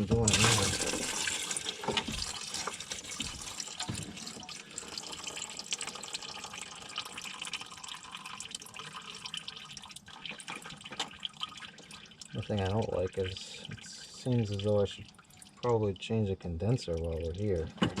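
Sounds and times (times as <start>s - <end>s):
liquid trickling and dripping: 0.0s - 18.0s.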